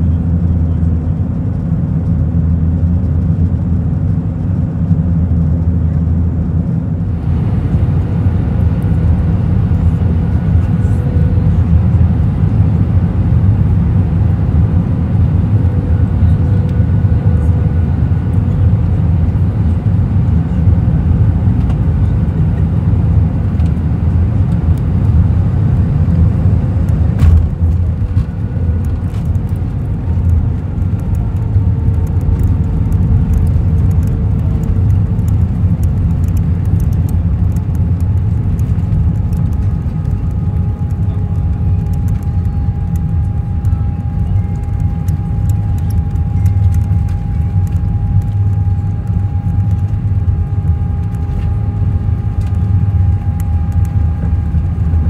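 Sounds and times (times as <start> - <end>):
airplane cabin rumble on runway: 0.0 - 55.0
faint steady whine: 4.8 - 55.0.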